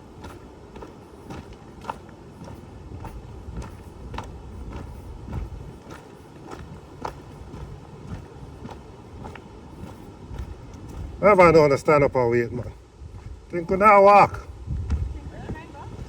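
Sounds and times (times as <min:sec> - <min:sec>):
footsteps walking: 0:00.0 - 0:16.0.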